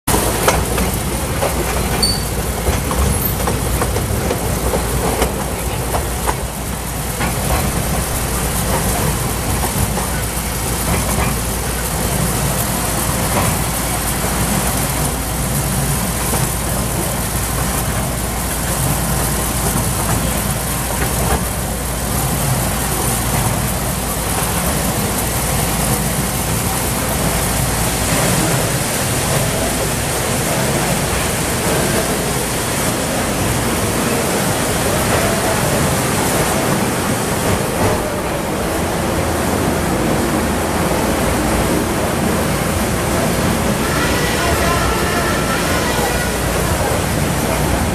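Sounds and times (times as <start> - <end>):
small train engine and wheels rumbling: 0.1 - 47.9.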